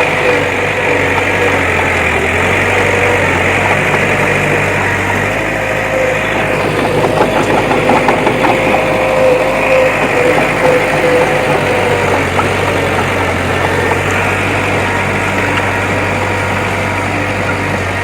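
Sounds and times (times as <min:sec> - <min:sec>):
diesel engine running: 0:00.0 - 0:18.0
steady whine: 0:00.0 - 0:18.0.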